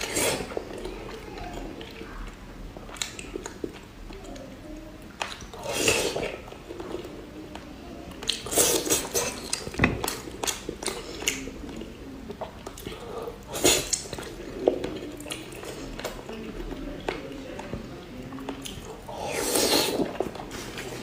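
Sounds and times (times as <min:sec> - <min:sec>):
person chewing: 0:00.0 - 0:16.4, 0:18.3 - 0:21.0.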